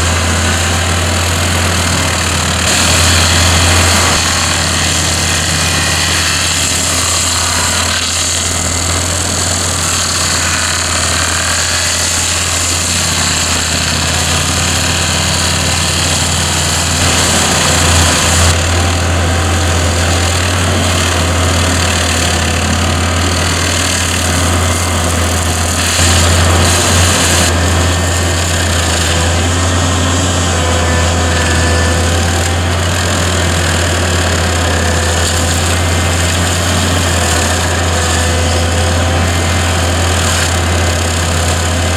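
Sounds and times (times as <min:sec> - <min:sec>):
excavator engine humming: 0:00.0 - 0:41.9
stump grinder cutting hiss: 0:00.0 - 0:41.9.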